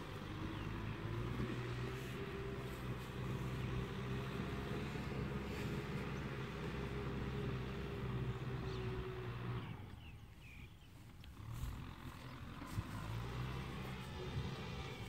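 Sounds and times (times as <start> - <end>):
distant tractor engine running: 0.0 - 15.0.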